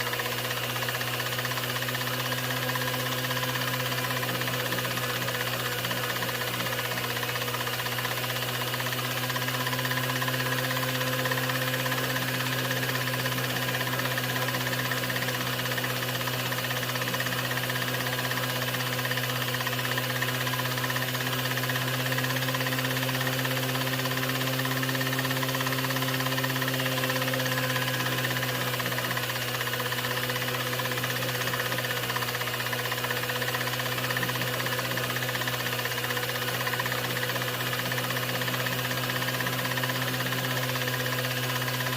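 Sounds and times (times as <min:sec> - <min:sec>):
film projector running: 0:00.0 - 0:41.9.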